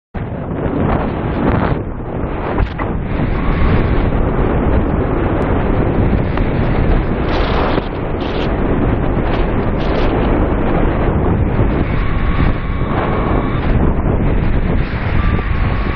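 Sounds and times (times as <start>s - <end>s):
wind buffeting microphone: 0.2s - 15.9s.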